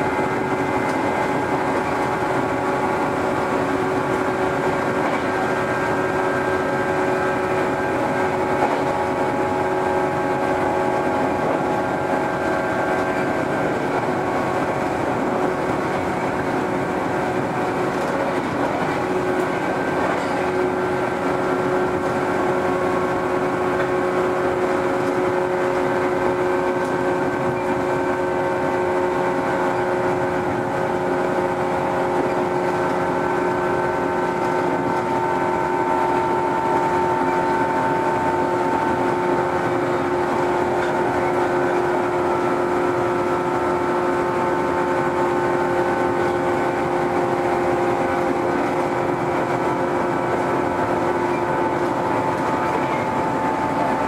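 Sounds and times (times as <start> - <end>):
electric train motor hum: 0.0 - 54.0
wheels on rails: 0.0 - 54.0.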